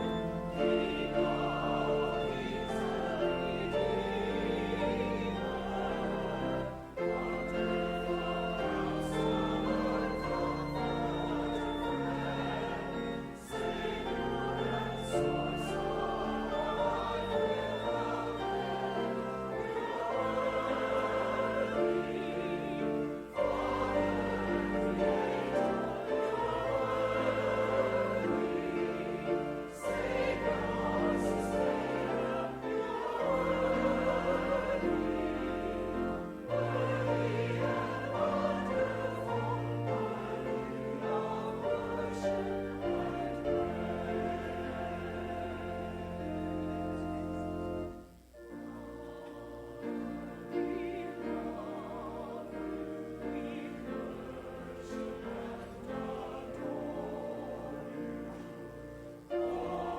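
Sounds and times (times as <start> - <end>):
choir singing slow music: 0.0 - 59.9.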